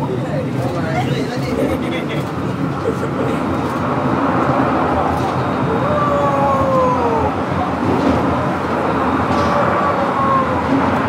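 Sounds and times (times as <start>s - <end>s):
funicular car rumbling on rails: 0.0s - 11.0s.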